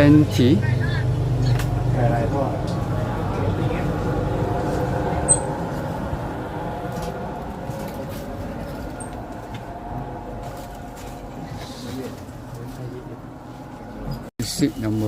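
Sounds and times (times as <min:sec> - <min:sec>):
train diesel machinery humming: 0:00.0 - 0:14.3.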